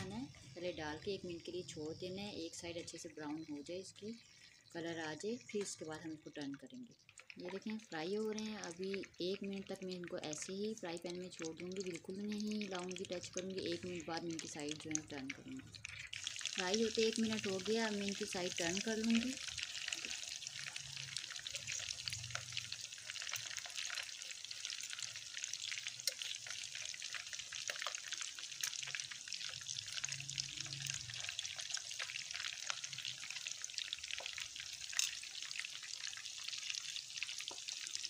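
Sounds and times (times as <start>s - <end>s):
oil sizzling in a frying pan: 0.0s - 38.0s.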